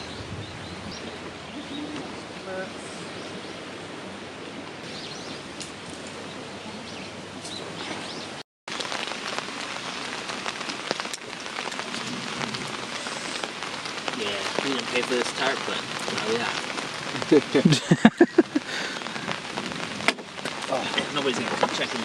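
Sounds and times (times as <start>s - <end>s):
rain falling: 0.0s - 22.0s
raindrops pattering close by: 0.7s - 22.0s.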